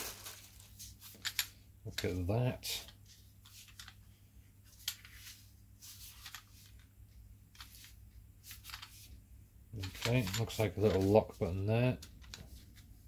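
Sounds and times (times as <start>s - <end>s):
gloved hands handling plastic tool: 0.0s - 9.2s, 9.8s - 13.0s
low steady hum: 0.0s - 13.0s.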